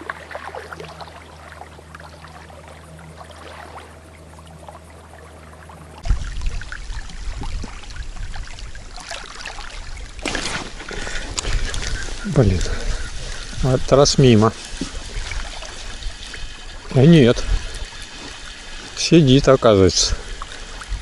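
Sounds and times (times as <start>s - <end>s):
river water lapping: 0.0s - 21.0s.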